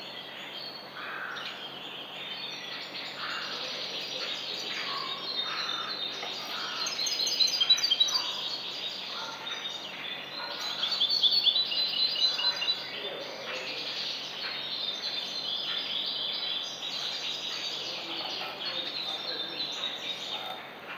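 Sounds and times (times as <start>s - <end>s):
goldfinch twittering song: 0.0s - 20.9s
steady background noise: 0.0s - 20.9s.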